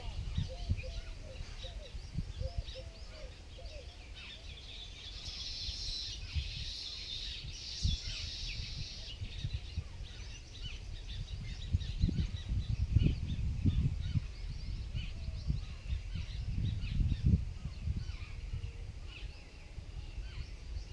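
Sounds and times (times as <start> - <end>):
birds chirping and calling: 0.0 - 20.9.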